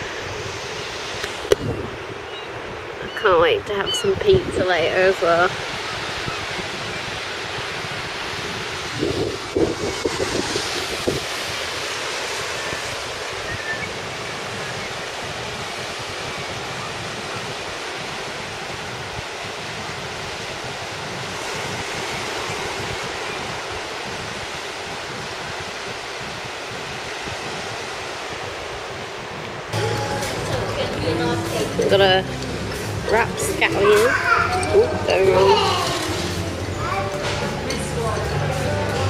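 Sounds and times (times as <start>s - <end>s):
wind buffeting microphone: 0.0s - 37.7s
surf washing on beach: 0.0s - 39.0s.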